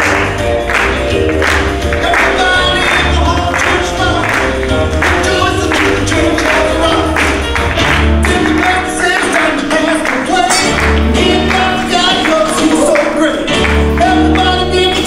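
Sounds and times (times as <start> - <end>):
upbeat song with singing: 0.0 - 15.0.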